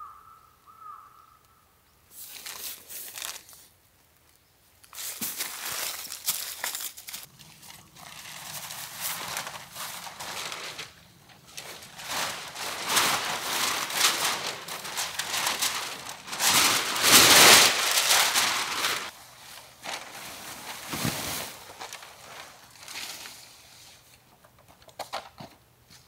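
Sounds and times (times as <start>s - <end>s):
rustling crinkling noise: 2.1s - 26.0s.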